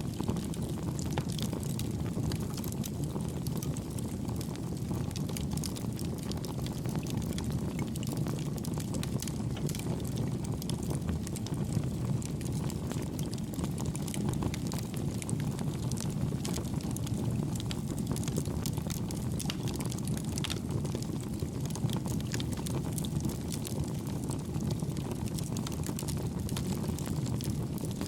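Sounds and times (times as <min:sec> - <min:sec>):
campfire crackling: 0:00.1 - 0:28.0.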